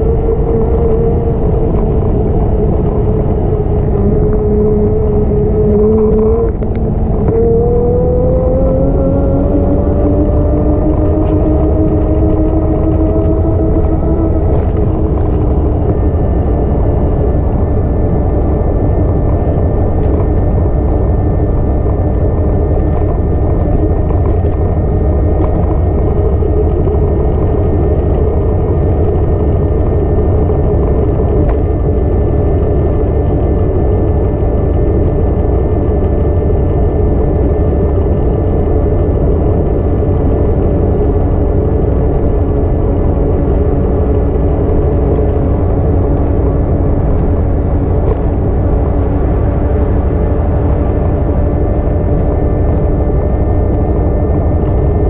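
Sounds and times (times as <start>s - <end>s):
multi-tone whine: 0.0s - 55.0s
wind rumble on camera: 0.0s - 55.0s.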